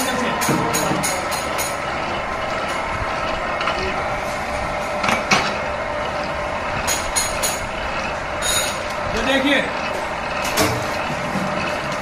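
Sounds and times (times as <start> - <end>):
wire stripping machine running: 0.0 - 12.0.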